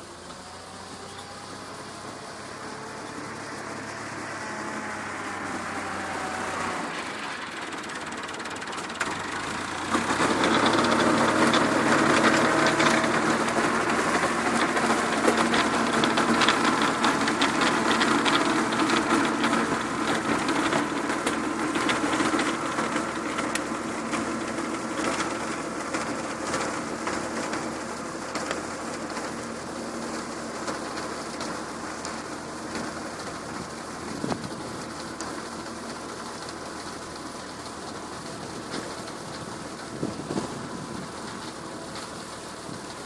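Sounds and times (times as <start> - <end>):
tractor engine rattling: 0.0 - 43.0.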